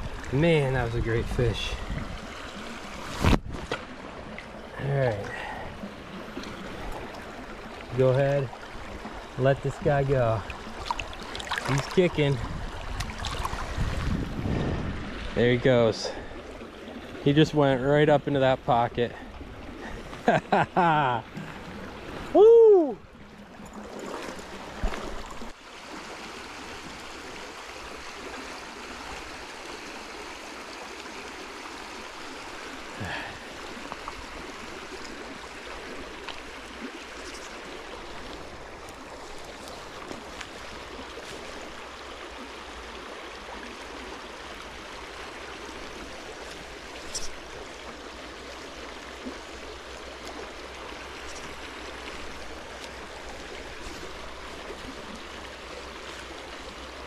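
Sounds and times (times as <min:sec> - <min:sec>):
water rushing over stones: 0:00.0 - 0:57.0.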